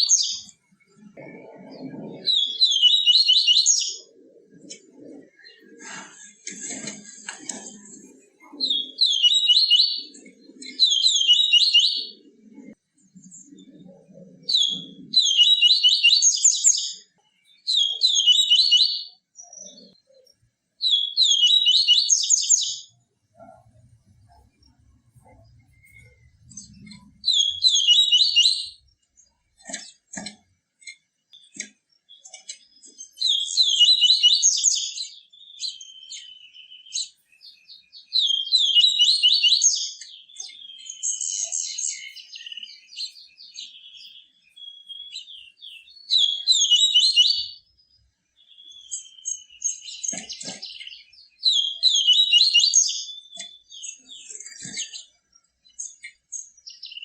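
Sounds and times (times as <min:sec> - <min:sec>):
bird singing high twittering: 0:00.0 - 0:06.4, 0:08.4 - 0:12.4, 0:13.0 - 0:23.5, 0:24.1 - 0:30.1, 0:31.4 - 0:57.0.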